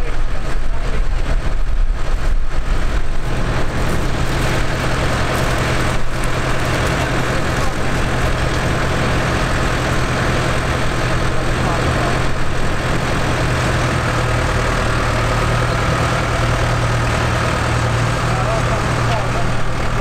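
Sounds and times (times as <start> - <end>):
tractor diesel engine idling: 2.4 - 20.0.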